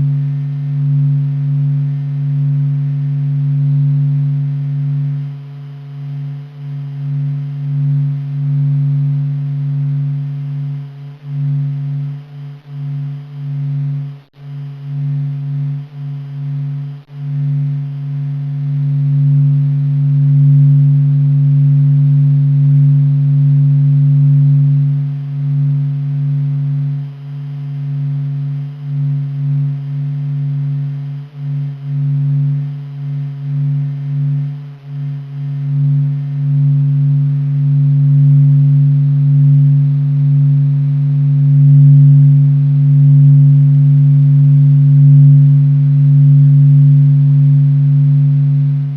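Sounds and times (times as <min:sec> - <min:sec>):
deep steady drone: 0:00.0 - 0:48.9
higher drone tone: 0:00.0 - 0:48.9.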